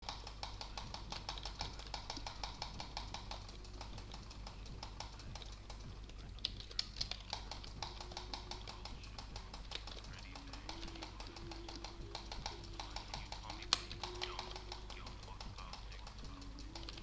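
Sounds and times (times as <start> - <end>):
fast sharp clicks: 0.0 - 17.0
low steady hum: 0.0 - 17.0.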